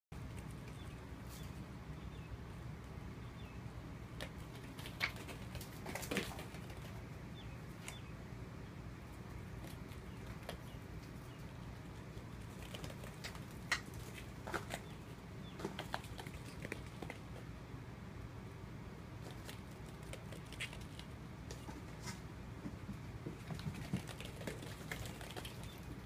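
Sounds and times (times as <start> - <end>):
low room hum: 0.1 - 26.0.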